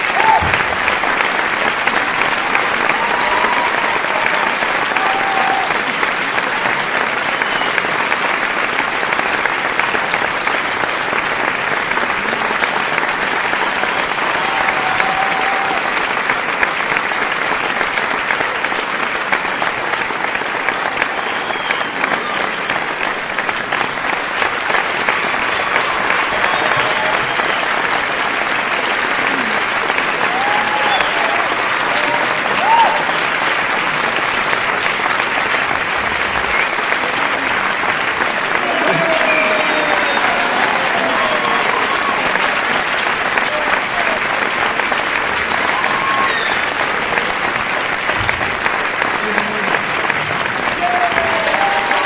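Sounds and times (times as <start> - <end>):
crowd applauding: 0.0 - 52.0.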